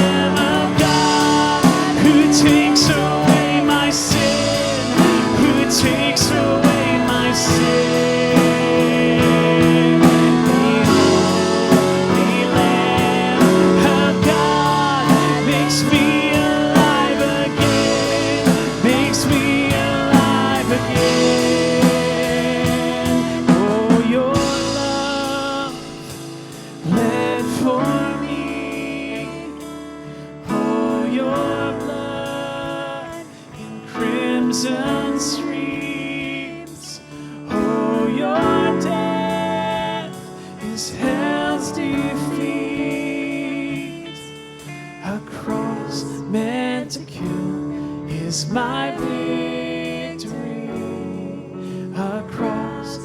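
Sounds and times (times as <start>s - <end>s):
band accompaniment: 0.0s - 52.8s
voices singing worship song: 0.0s - 53.0s.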